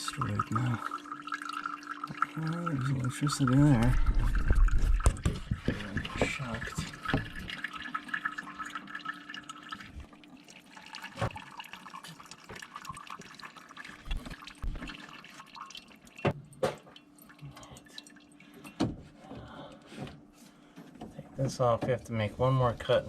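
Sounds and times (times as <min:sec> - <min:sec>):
water dripping into a cup: 0:00.0 - 0:18.8.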